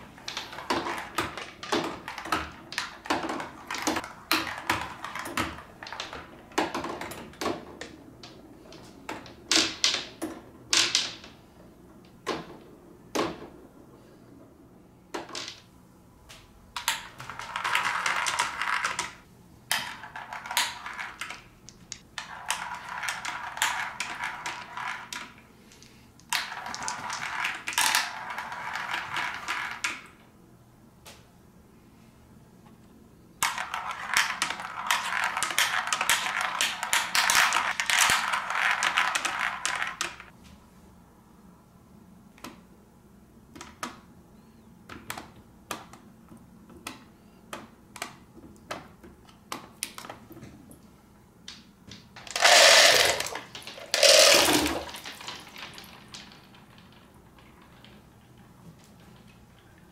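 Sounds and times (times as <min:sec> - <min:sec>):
balls clattering down plastic ramps: 0:00.0 - 0:13.8, 0:15.1 - 0:15.7, 0:16.7 - 0:30.2, 0:33.4 - 0:40.4, 0:43.6 - 0:59.9.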